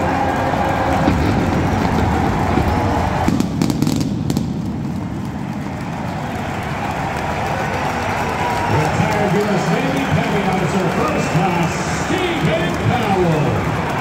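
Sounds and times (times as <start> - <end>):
crowd: 0.0 - 14.0
fireworks popping and crackling: 0.0 - 14.0
jet flyover rumble: 0.0 - 14.0.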